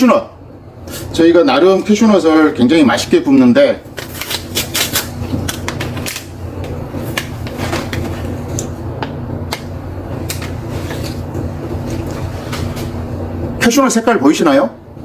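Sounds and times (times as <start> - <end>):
roasting machine humming: 0.0 - 15.0.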